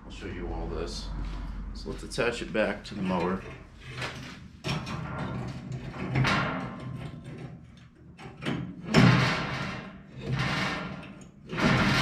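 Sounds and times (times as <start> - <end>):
metal scraping and knocking: 1.0 - 12.0.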